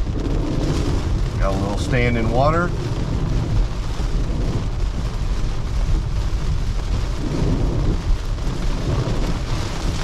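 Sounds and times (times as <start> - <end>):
rain hissing on a car: 0.0 - 10.0
tyres rumbling on wet road: 0.0 - 10.0.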